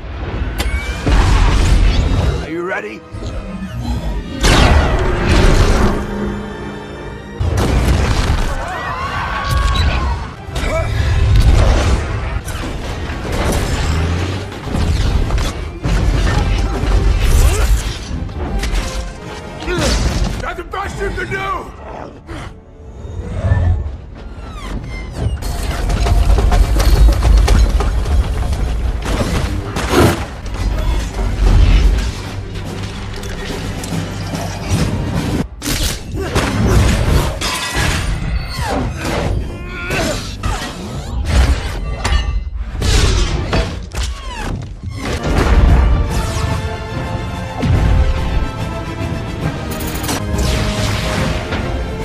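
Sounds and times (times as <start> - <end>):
action film music: 0.0 - 52.0
dramatic orchestral score: 0.0 - 52.0.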